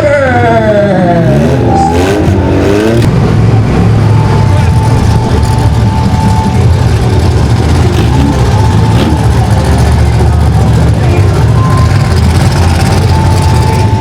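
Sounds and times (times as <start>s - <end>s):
mini monster truck engines droning: 0.0s - 14.0s.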